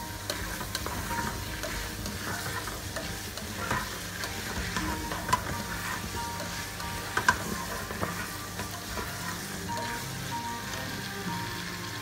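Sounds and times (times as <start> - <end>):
food sizzling in hot oil: 0.0 - 12.0
spatula scraping a pot: 0.3 - 10.1.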